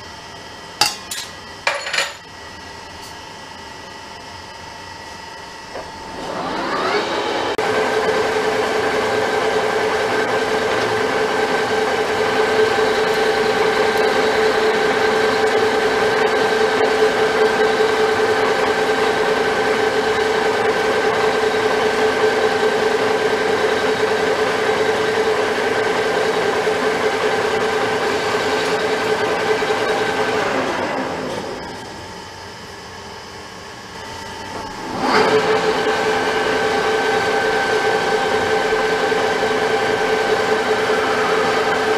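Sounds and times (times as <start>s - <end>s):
metal lathe running: 5.8s - 32.7s, 34.2s - 41.9s.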